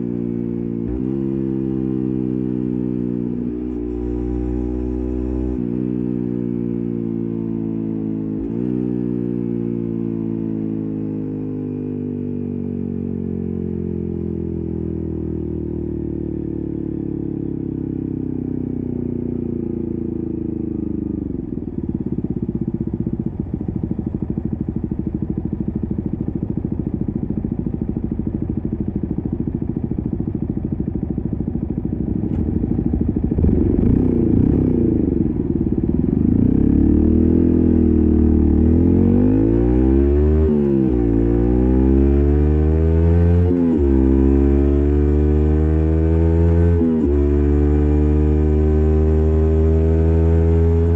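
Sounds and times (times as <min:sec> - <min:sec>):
motorcycle engine: 0:00.0 - 0:50.9.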